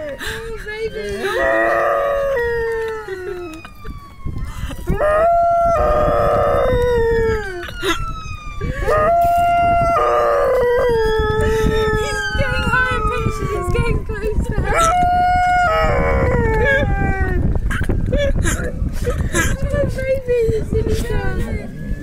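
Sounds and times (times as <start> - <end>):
ambulance siren wailing: 0.0 - 22.0.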